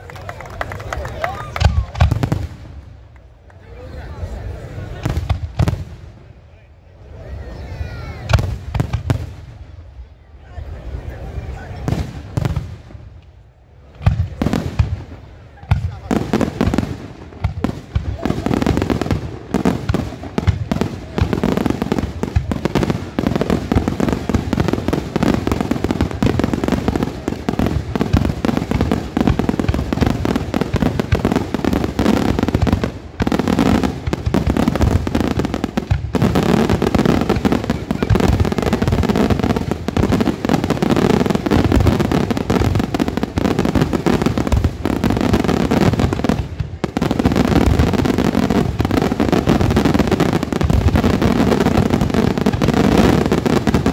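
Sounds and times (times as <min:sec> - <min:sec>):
fireworks bursts and crackling: 0:00.0 - 0:53.9.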